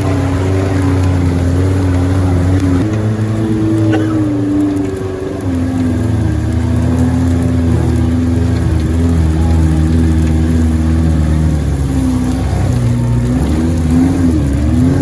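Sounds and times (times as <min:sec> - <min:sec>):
off-road vehicle engine under load: 0:00.0 - 0:15.0.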